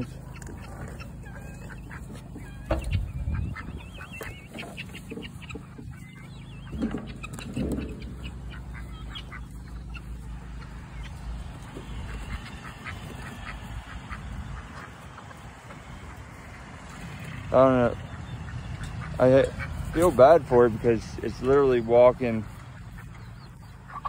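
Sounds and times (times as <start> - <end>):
ducks quacking: 0.0 - 24.0.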